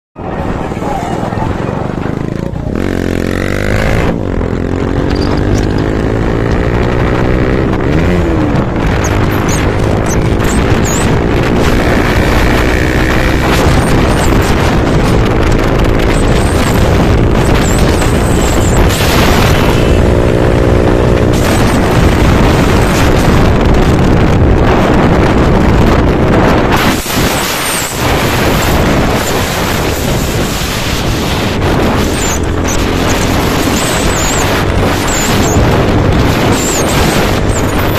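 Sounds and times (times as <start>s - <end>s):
wind rush on microphone: 0.2s - 37.9s
motorcycle engine accelerating: 0.4s - 37.9s.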